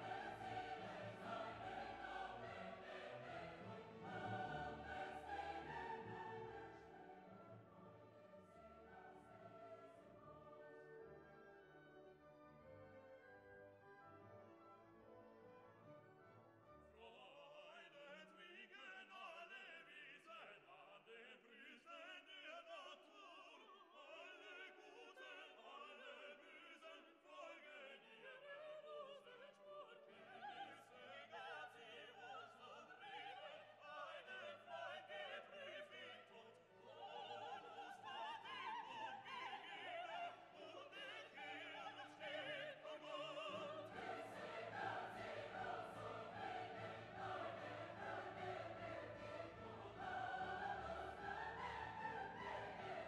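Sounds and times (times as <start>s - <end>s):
operatic singing with orchestra: 0.0s - 11.1s, 17.0s - 53.0s.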